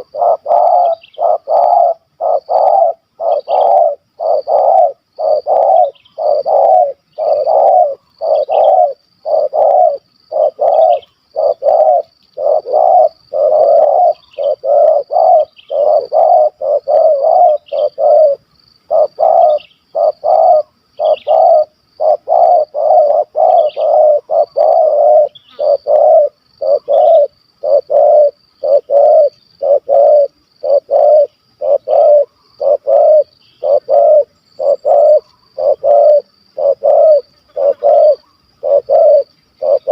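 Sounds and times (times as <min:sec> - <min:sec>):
dove cooing: 0:00.0 - 0:39.9
faint high chirping: 0:00.0 - 0:39.9.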